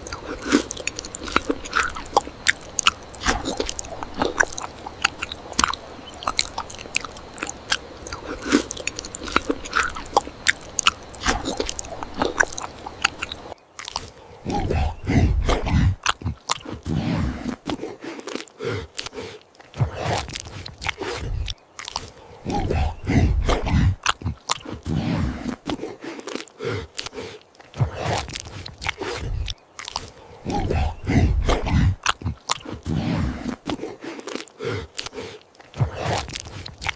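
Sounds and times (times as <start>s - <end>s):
crunching and chewing: 0.0s - 36.9s
heavy munching: 0.0s - 36.9s.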